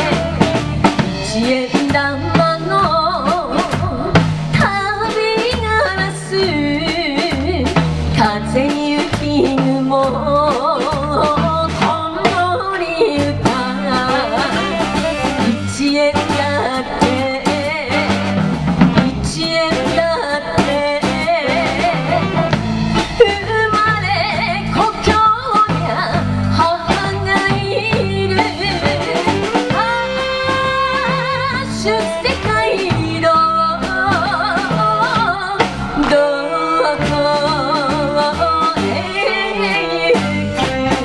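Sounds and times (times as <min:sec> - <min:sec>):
drum kit: 0:00.0 - 0:41.0
electric guitars: 0:00.0 - 0:41.0
woman singing into a microphone: 0:00.0 - 0:41.0.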